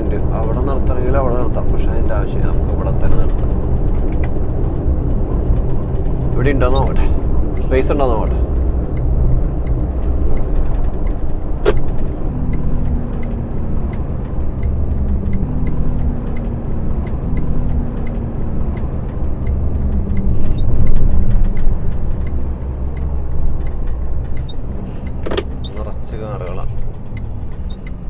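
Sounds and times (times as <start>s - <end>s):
diesel engine rumbling: 0.0s - 28.0s
turn indicator ticking: 0.0s - 28.0s.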